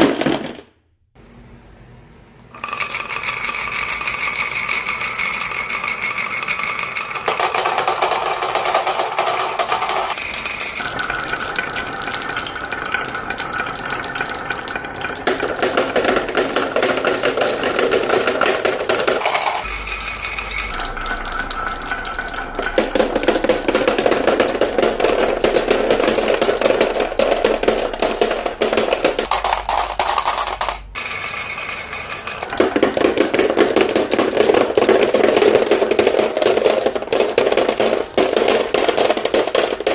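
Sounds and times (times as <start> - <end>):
marbles dropping into plastic truck: 0.0 - 0.7, 2.6 - 39.9
marbles clattering down wooden slope: 2.6 - 39.9.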